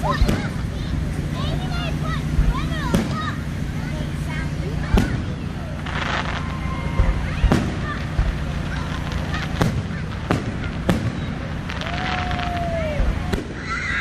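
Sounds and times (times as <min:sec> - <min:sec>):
low rumble: 0:00.0 - 0:13.6
firework bangs: 0:00.0 - 0:14.0
fireworks crackling: 0:00.0 - 0:14.0.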